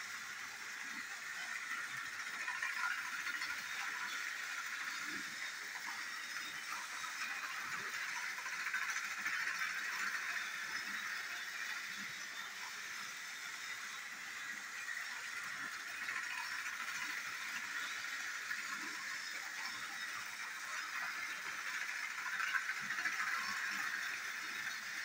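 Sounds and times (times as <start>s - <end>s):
toy train whirring and rattling: 0.0s - 25.0s.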